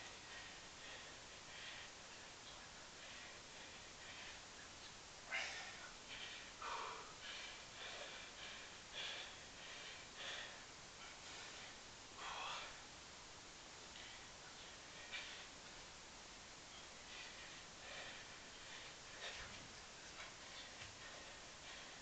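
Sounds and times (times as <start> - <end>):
man breathing hard: 0.0 - 12.9, 13.9 - 15.7, 16.7 - 22.0.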